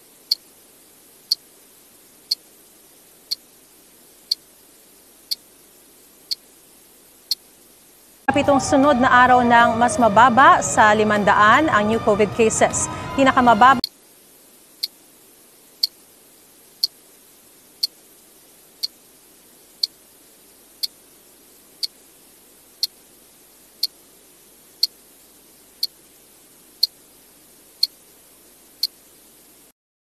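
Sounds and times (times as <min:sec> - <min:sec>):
faint steady hiss: 0:00.0 - 0:12.5, 0:13.2 - 0:29.8.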